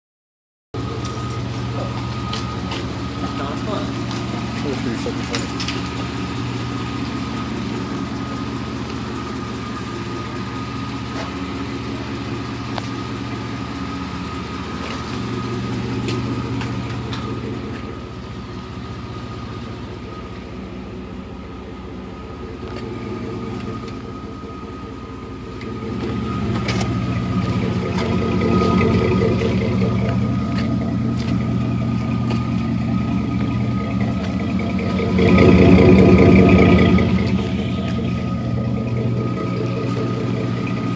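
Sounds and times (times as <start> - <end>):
engine idling: 0.8 - 40.9.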